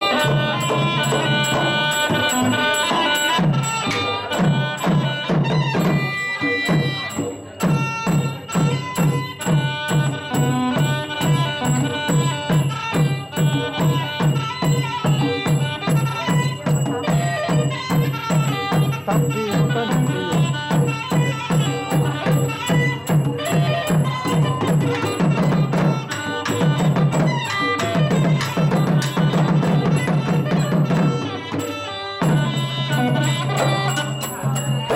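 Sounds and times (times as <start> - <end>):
drum beat: 0.0 - 34.9
oboe wavering melody: 0.0 - 34.9.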